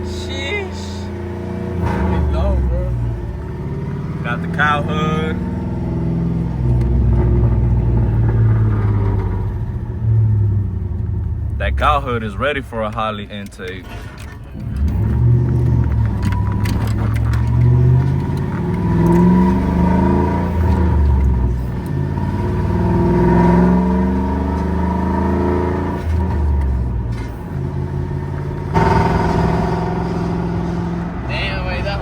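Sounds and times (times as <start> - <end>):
truck engine pulling: 0.0 - 32.0.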